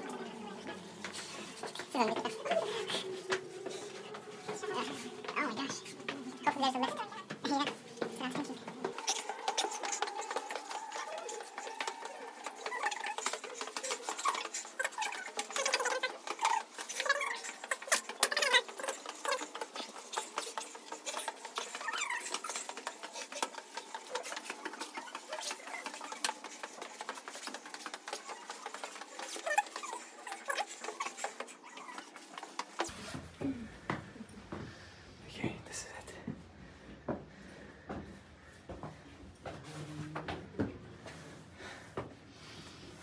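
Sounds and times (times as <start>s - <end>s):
footsteps on stone stairs: 0.7s - 34.8s, 35.4s - 42.2s.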